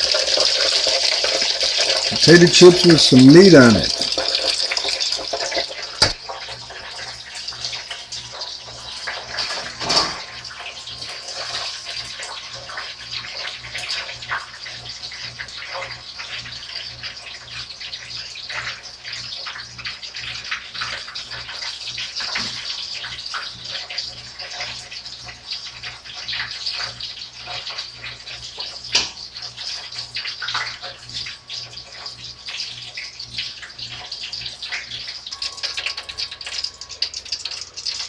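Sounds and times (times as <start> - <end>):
potato slices sizzling in oil: 0.0 - 38.0.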